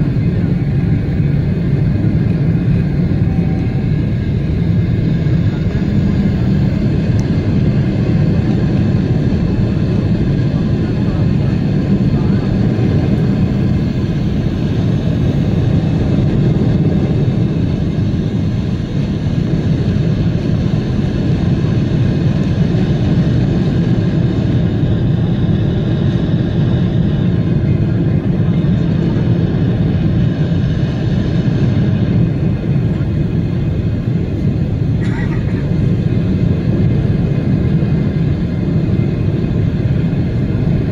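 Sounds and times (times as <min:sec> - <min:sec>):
jet engines low rumble: 0:00.0 - 0:40.9.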